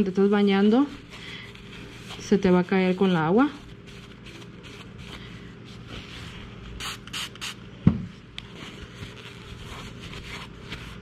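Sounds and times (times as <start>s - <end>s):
cloth rubbing on skin: 0.0s - 7.2s, 8.5s - 11.0s.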